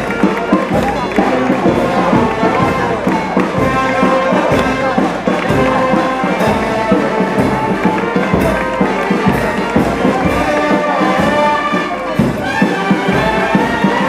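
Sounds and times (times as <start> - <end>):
brass band music: 0.0 - 14.0.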